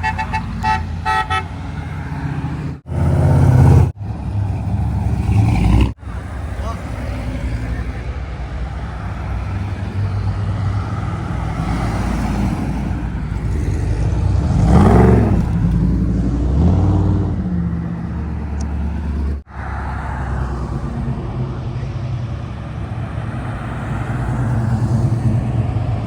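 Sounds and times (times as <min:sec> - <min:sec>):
car engines passing by: 0:00.0 - 0:26.0.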